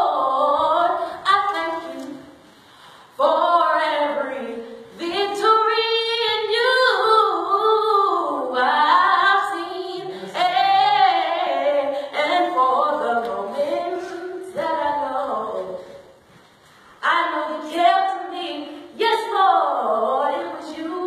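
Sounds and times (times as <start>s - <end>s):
women singing gospel song: 0.0s - 2.4s, 3.1s - 16.2s, 17.0s - 21.0s.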